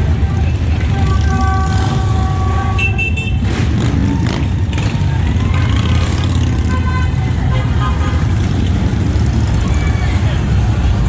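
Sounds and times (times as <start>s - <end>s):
vehicle horns sounding: 0.0s - 9.0s
motorcycle engines rumbling: 0.0s - 11.0s.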